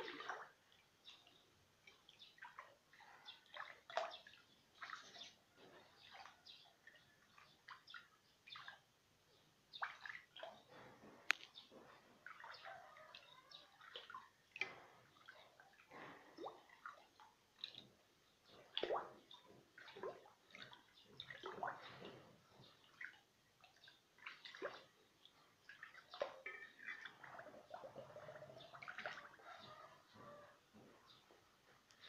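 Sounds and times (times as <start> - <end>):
water splashing and dripping: 0.0 - 32.0.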